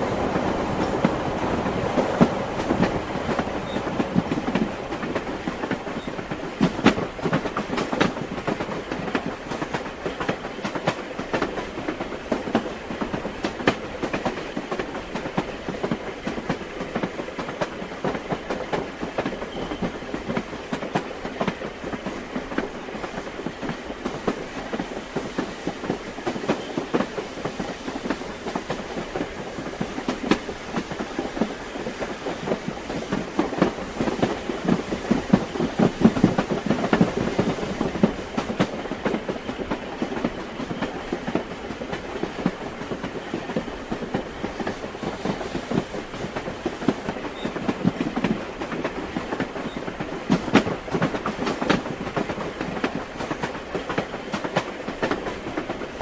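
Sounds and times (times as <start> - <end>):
railway carriage rumble: 0.0 - 56.0
train wheels clacking: 0.0 - 56.0.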